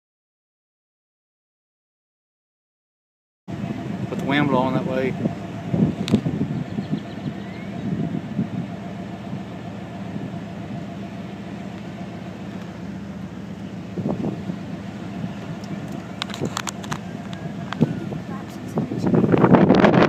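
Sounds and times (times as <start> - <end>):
vehicle engine idling: 3.5 - 20.0.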